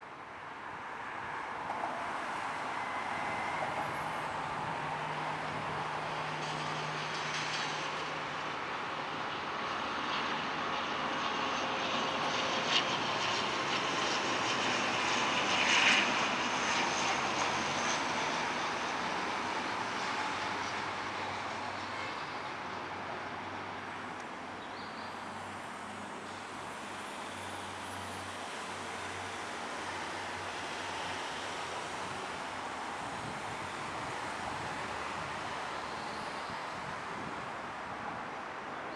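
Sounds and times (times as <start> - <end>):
turboprop airliner passing: 0.9 - 38.9.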